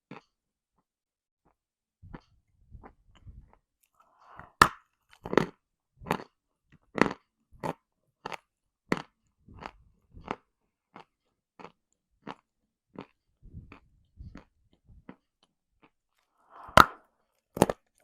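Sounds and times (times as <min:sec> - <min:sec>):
chewing crunches: 0:02.1 - 0:18.0.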